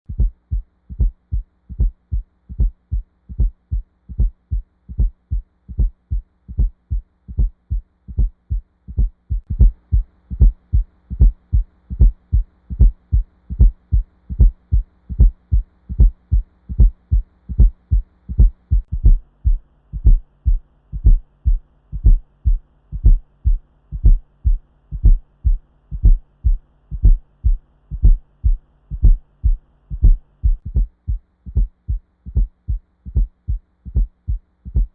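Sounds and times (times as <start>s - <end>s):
faint steady hum: 0.1s - 34.9s
heartbeat through a stethoscope: 0.1s - 34.9s
soft extra heartbeat: 0.1s - 34.9s.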